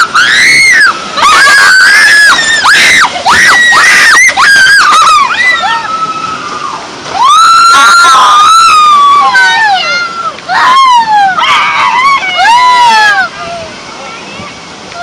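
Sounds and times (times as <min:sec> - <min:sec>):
children screaming: 0:00.0 - 0:15.0.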